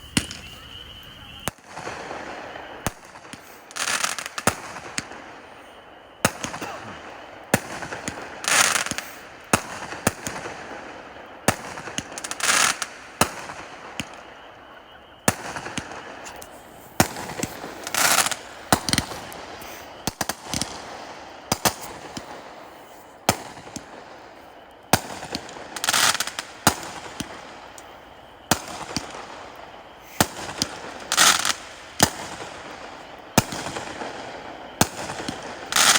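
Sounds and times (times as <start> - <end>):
firework hiss: 0.0 - 14.3, 15.3 - 35.9
firework crackling: 0.0 - 35.9
firework shots and bangs: 0.1 - 0.8, 1.4 - 5.5, 6.2 - 14.3, 15.2 - 22.6, 23.2 - 24.2, 24.9 - 27.8, 28.4 - 35.9.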